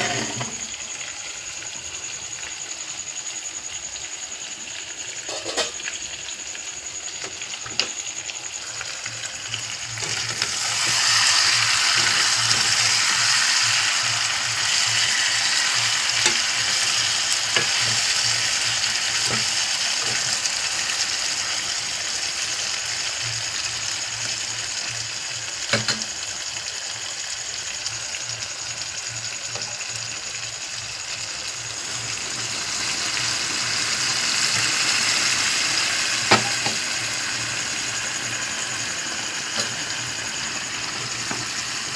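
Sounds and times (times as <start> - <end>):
chicken sizzling in oil: 0.0 - 41.9.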